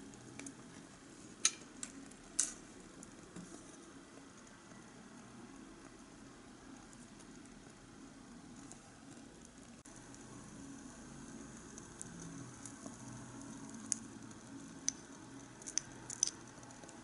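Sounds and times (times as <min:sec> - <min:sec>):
soup bubbling: 0:00.0 - 0:17.0.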